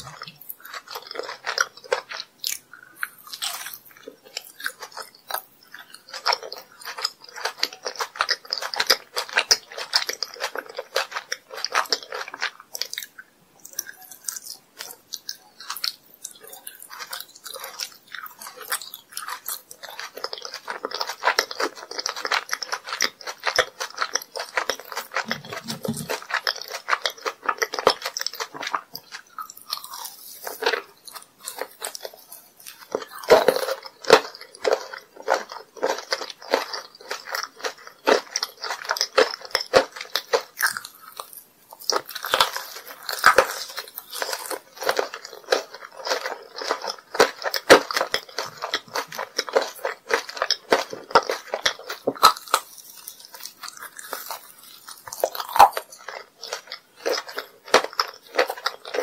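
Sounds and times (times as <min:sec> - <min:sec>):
candy shell crackling: 0:00.0 - 0:59.0
crunchy bites: 0:00.0 - 0:59.0
sticky chewing: 0:00.0 - 0:59.0.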